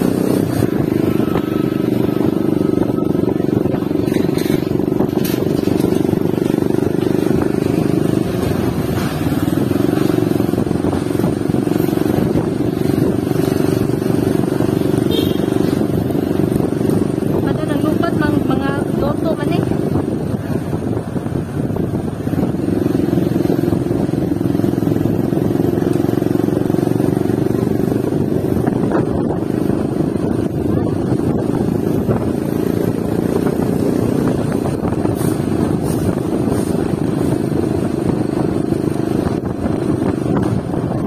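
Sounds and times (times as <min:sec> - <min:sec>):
vehicle engine running steadily: 0:00.0 - 0:41.0.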